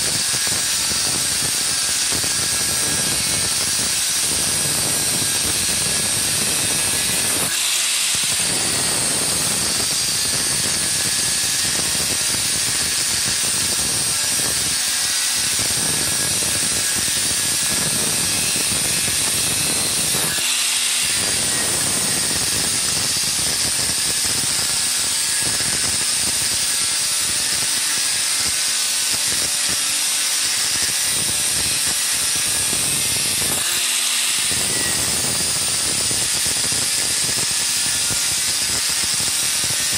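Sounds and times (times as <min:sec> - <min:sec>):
angle grinder cutting steel: 0:00.0 - 0:39.9.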